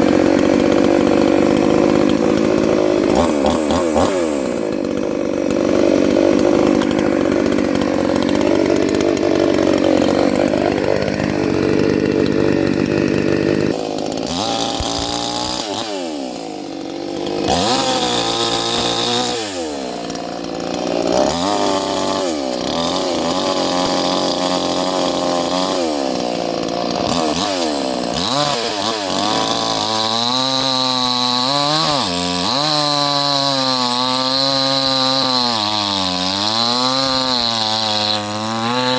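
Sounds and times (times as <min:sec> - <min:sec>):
chainsaw cutting logs: 0:00.0 - 0:38.9.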